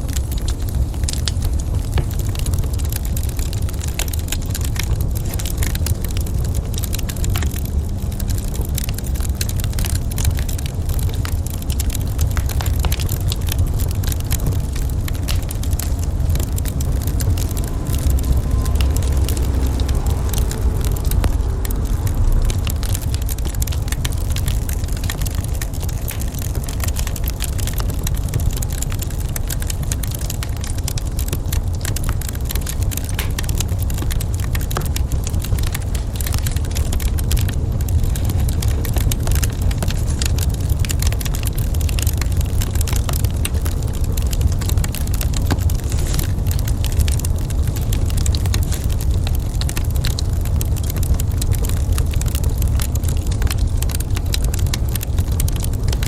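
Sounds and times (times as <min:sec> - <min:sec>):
low rumble: 0:00.0 - 0:56.0
wood fire crackling: 0:00.0 - 0:56.0.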